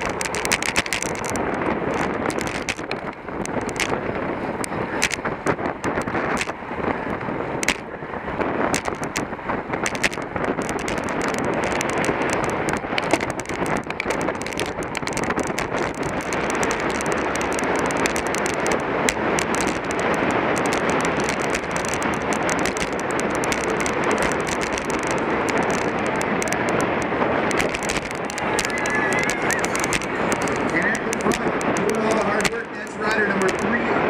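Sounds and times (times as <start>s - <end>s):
small clicks: 0.0s - 4.0s, 4.6s - 6.6s, 7.6s - 7.9s, 8.6s - 33.8s
tyre and road noise: 0.0s - 34.0s
wind rushing over microphone: 0.0s - 34.0s.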